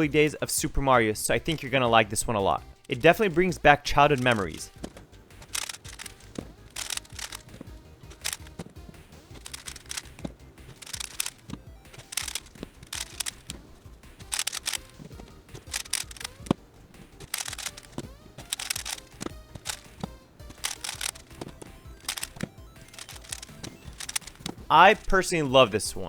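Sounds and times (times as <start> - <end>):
background music: 0.0 - 26.0
puzzle cubes clicking and scraping: 2.8 - 25.4.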